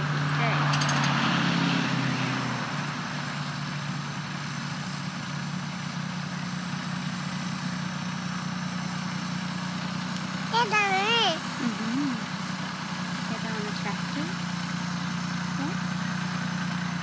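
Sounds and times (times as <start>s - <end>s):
tractor engine under load: 2.7s - 17.0s.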